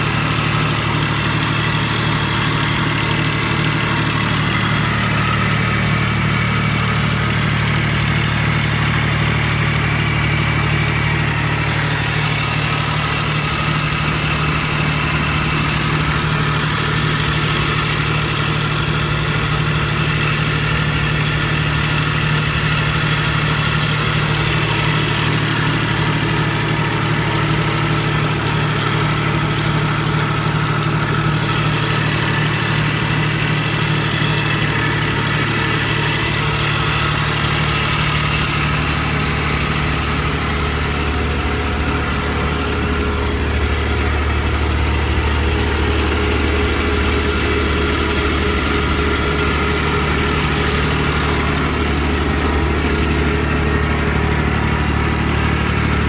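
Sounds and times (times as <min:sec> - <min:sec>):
road roller engine idling: 0:00.0 - 0:56.0.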